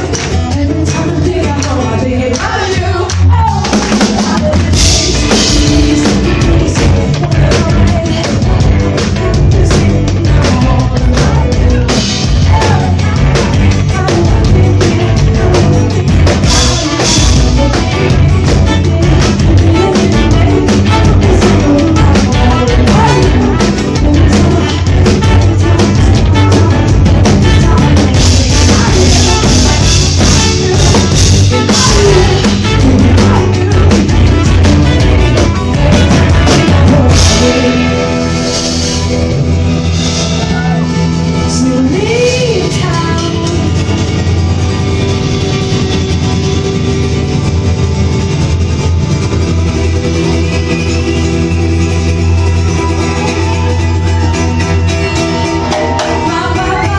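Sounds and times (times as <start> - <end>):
drum kit beat: 0.0 - 56.9
heavy bass: 0.0 - 56.9
live rock band playing: 0.0 - 56.9.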